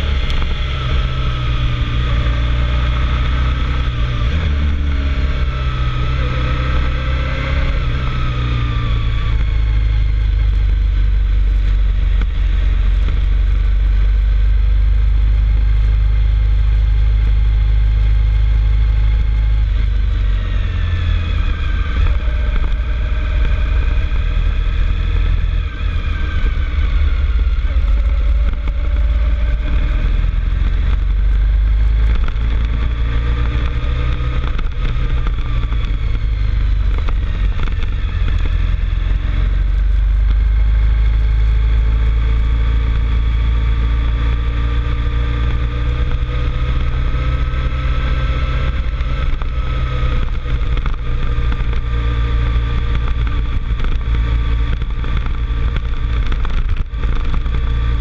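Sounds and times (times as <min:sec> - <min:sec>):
vehicle engine under load: 0:00.0 - 0:58.0
wind rumble on microphone: 0:00.0 - 0:58.0.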